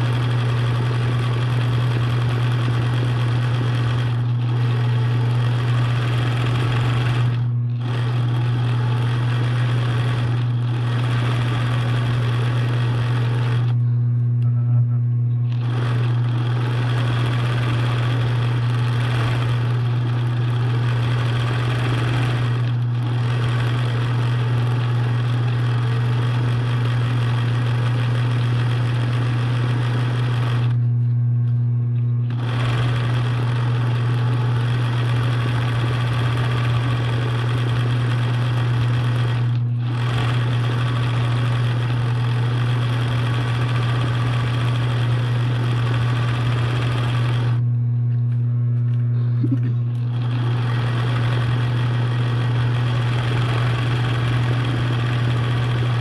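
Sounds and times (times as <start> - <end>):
sewing machine running: 0.0 - 13.9, 15.4 - 30.9, 32.2 - 47.6, 49.4 - 56.0
steady low hum: 0.0 - 26.9, 29.2 - 56.0.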